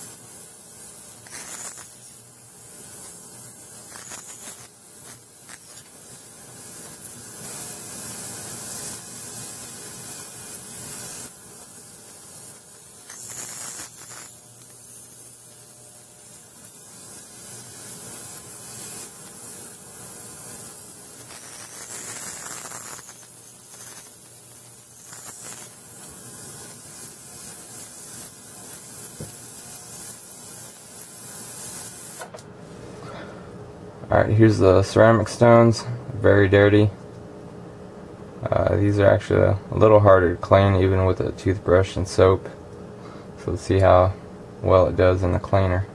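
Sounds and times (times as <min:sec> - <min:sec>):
ultrasonic cleaner hiss and buzz: 0:00.0 - 0:45.9.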